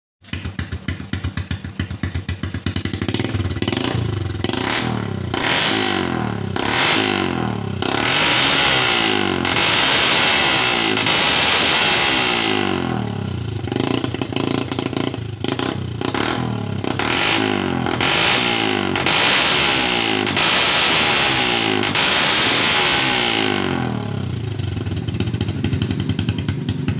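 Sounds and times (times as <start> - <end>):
motorcycle engine revving: 0.2 - 26.9.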